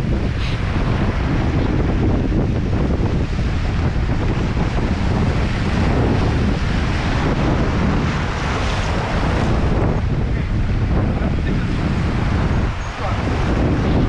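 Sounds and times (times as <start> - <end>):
waves washing on rocky shore: 0.0 - 14.0
wind buffeting microphone: 0.0 - 14.0.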